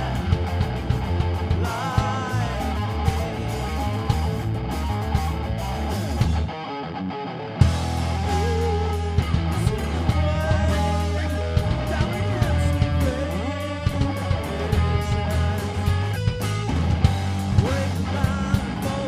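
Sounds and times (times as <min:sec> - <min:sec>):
electric guitar lead bends: 0:00.0 - 0:19.0
rock band playing live: 0:00.0 - 0:19.0.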